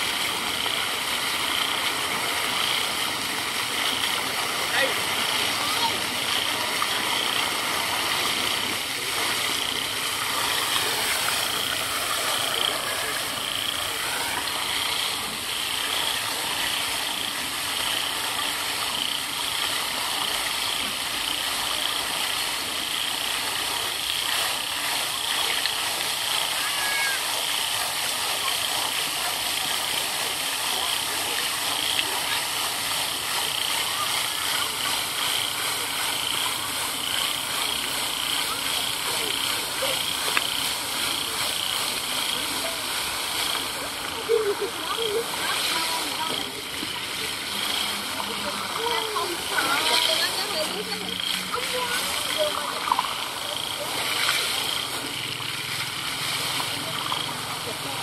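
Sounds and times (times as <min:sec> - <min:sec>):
people chattering: 0:00.0 - 0:23.0, 0:23.6 - 0:58.0
fountain water splashing: 0:00.0 - 0:58.0.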